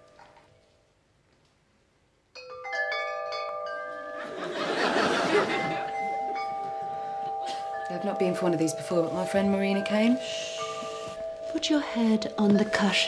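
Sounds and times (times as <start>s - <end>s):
wind chimes ringing: 2.4s - 13.0s.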